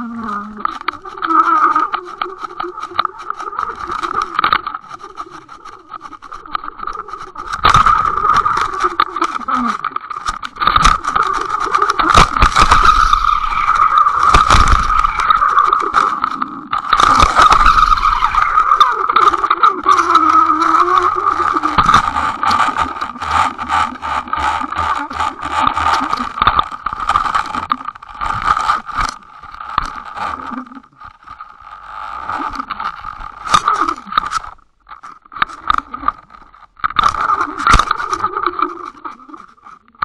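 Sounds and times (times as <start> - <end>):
underwater hum: 0.0 - 40.0
scraping clicks and knocks: 0.5 - 40.0.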